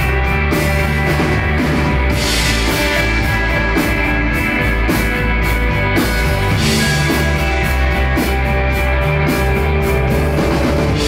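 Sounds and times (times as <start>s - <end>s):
heavy held bass line: 0.0s - 11.0s
live instrumental rock jam: 0.0s - 11.0s.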